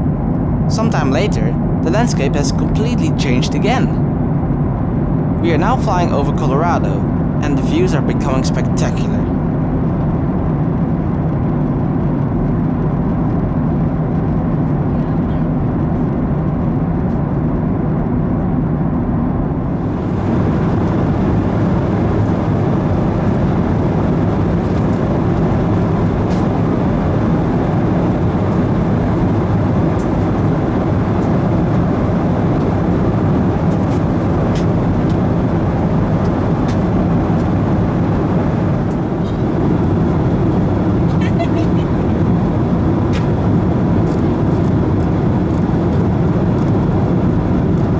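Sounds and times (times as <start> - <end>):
jet engine rumble and airflow: 0.0 - 47.9.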